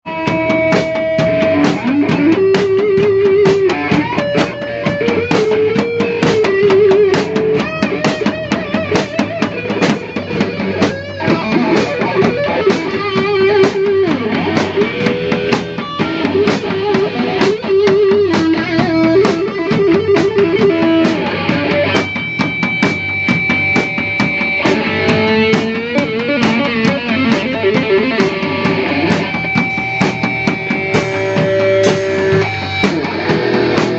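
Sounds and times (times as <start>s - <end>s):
bass guitar: 0.0s - 33.9s
drum kit: 0.0s - 33.9s
electric guitar lead notes: 0.0s - 33.9s.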